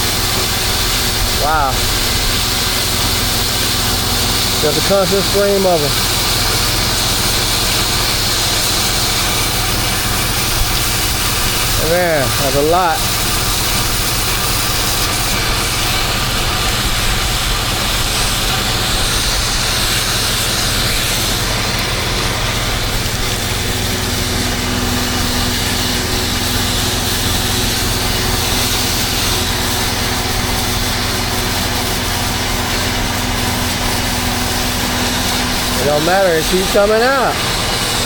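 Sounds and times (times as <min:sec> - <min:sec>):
pressure washer engine running: 0:00.0 - 0:38.0
steady hum: 0:00.0 - 0:38.0
water spray hissing: 0:00.0 - 0:38.0.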